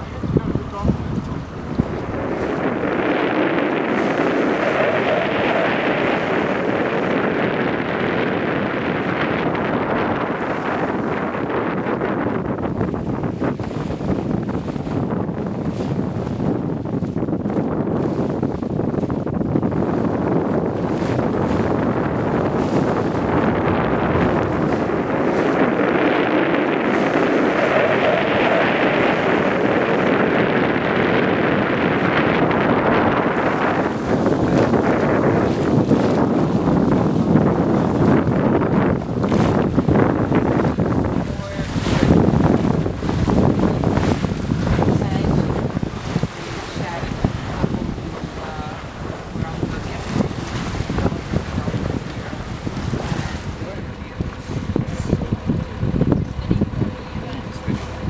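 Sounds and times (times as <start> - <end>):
wind and water rushing: 0.0 - 58.0.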